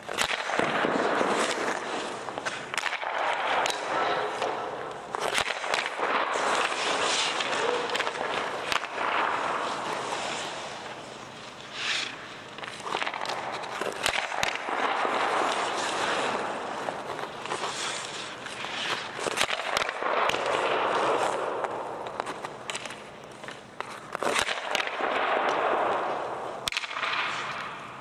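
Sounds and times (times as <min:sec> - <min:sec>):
pucks striking goalie: 0:00.0 - 0:11.0, 0:11.7 - 0:27.9
skates scraping ice: 0:00.0 - 0:28.0
sticks cracking on pucks: 0:00.0 - 0:28.0.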